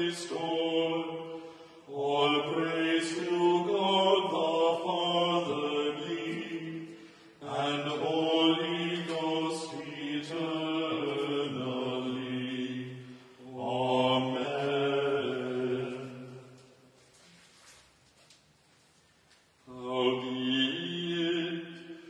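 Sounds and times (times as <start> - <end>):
two men singing a hymn: 0.0 - 16.7, 19.7 - 22.0.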